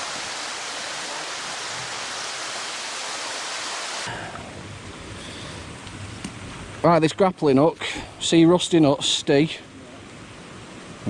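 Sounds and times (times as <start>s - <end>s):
quiet outdoor background: 0.0s - 11.0s
steady rushing hiss: 0.0s - 11.0s.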